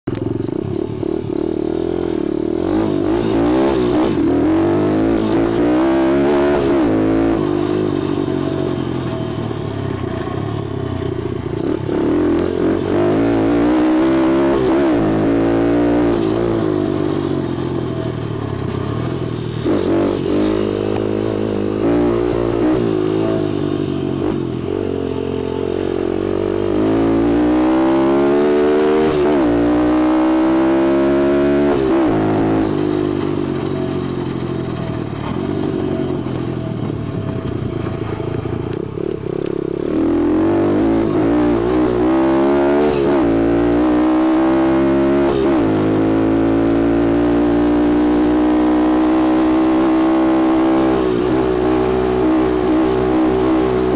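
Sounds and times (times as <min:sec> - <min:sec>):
motorbike engine revving: 0:00.1 - 0:53.9.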